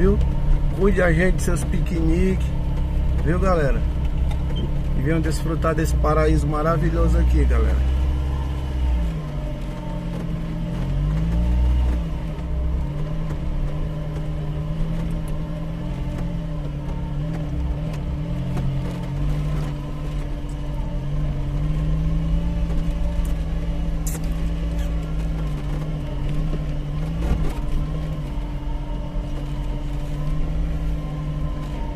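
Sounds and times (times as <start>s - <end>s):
deep rumble: 0.0s - 31.9s
vehicle engine running: 0.0s - 31.9s.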